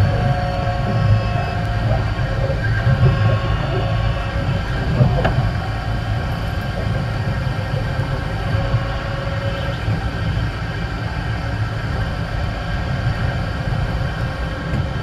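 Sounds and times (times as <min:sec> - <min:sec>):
faint steady tones: 0:00.0 - 0:15.0
tram wheels rumbling on rail: 0:00.0 - 0:15.0.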